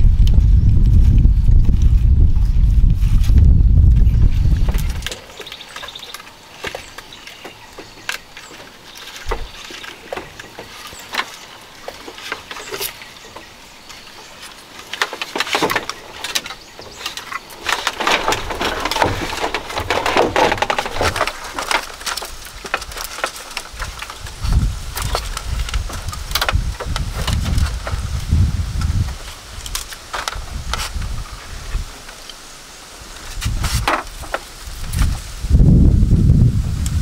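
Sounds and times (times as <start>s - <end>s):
dry roots and leaves crackling: 0.0s - 37.0s.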